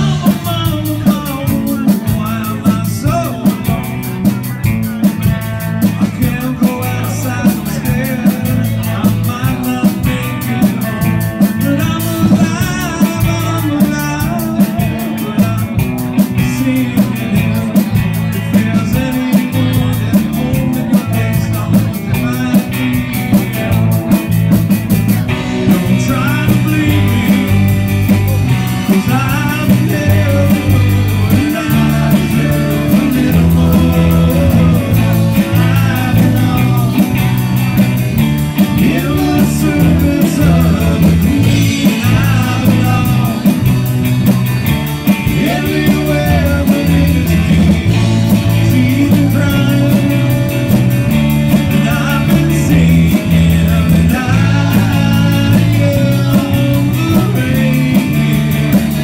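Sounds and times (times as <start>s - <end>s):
bass: 0.0s - 59.0s
drum kit beat: 0.0s - 59.0s
electric guitar: 0.0s - 59.0s
keyboard: 0.0s - 59.0s
man singing: 0.0s - 59.0s.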